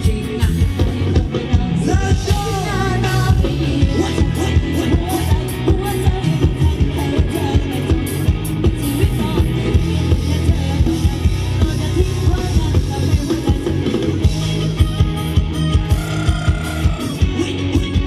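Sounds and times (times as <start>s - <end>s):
heavy bass: 0.0s - 18.0s
live band dance music: 0.0s - 18.0s
steady drum beat: 0.0s - 18.0s.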